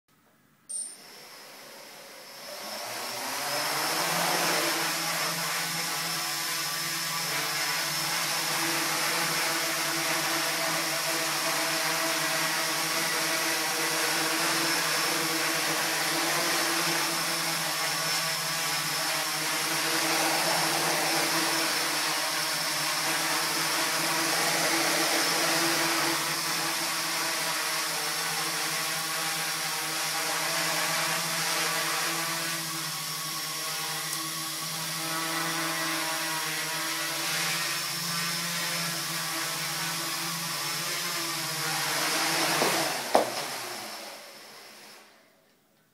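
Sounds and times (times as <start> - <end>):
quadcopter motors buzzing whir: 1.0 - 45.3.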